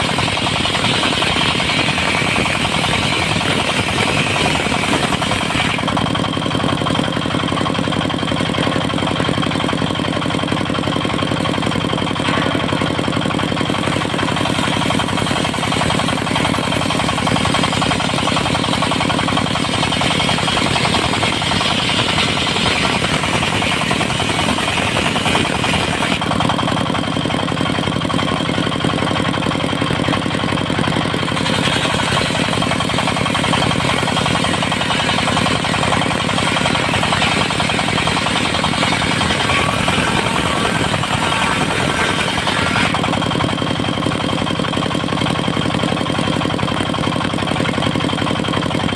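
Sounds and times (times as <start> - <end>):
saw whine: 0.0 - 7.5, 10.7 - 43.8
diesel engine knocking: 0.0 - 48.9.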